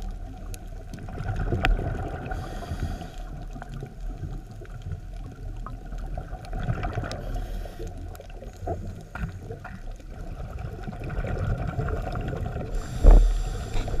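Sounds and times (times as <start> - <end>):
underwater rumble of moving water: 0.0 - 14.0.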